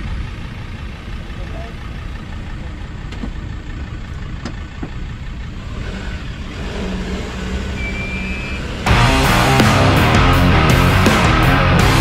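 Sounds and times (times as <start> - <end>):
four-wheel-drive engine under load: 0.0 - 12.0.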